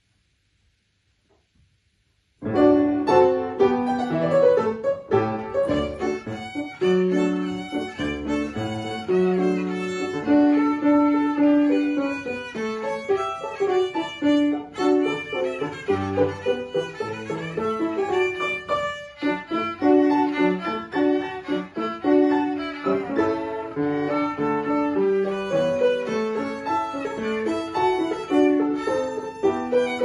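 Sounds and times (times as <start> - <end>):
violin playing folk song: 3.1 - 30.0.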